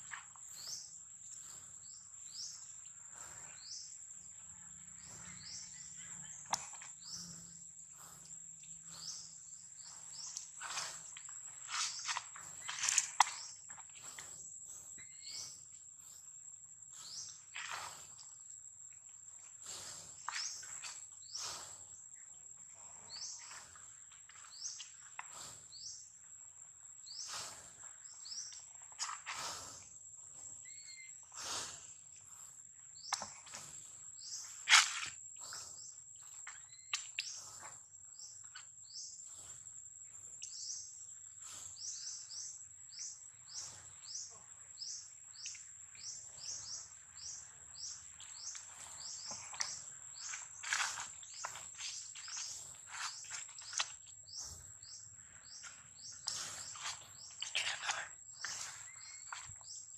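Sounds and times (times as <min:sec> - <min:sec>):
high-pitched insect whine: 0:00.0 - 0:59.9.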